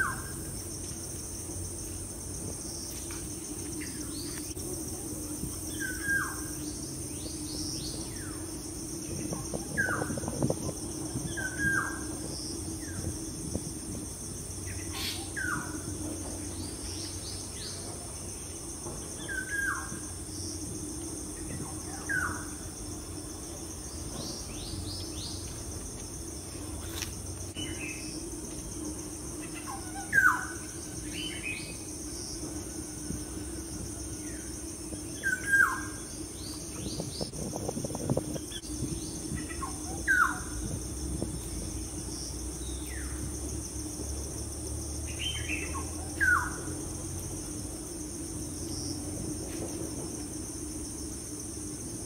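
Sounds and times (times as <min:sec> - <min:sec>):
steady high-pitched drone: 0:00.0 - 0:52.0.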